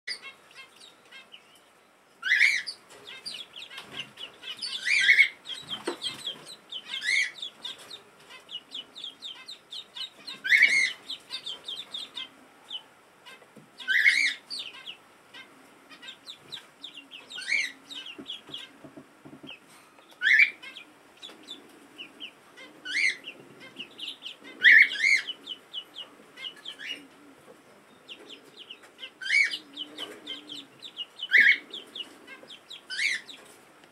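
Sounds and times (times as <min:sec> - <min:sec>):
ducklings peeping: 0:00.1 - 0:33.9.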